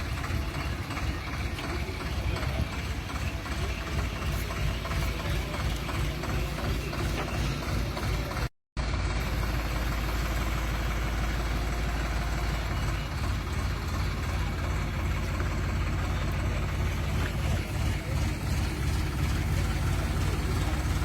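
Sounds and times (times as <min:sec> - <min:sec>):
heavy engine rumbling: 0:00.0 - 0:21.0.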